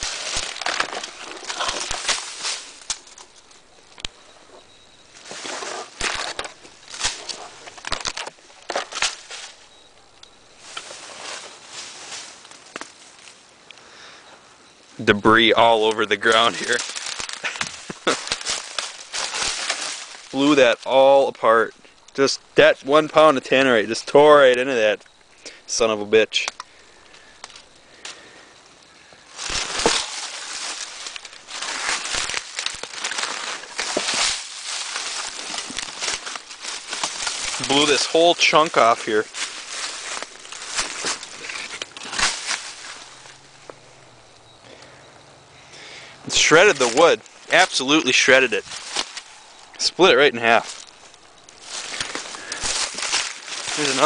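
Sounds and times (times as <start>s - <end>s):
footsteps crunching wood debris: 0.0s - 13.5s, 15.4s - 44.9s, 45.8s - 54.0s.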